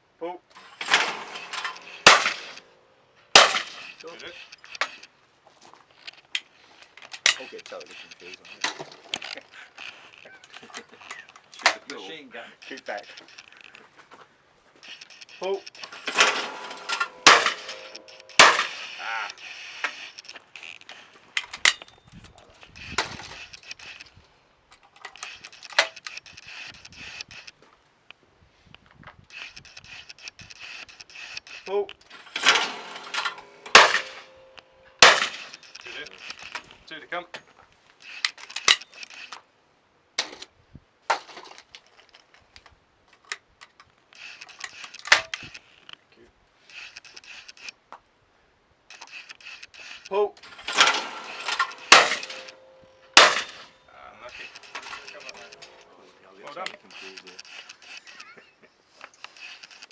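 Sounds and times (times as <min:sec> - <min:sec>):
small clicks: 0:03.3 - 0:05.2, 0:05.9 - 0:12.0, 0:12.6 - 0:13.9, 0:14.8 - 0:36.9, 0:37.6 - 0:39.5, 0:41.4 - 0:46.0, 0:46.6 - 0:48.0, 0:48.9 - 0:59.9.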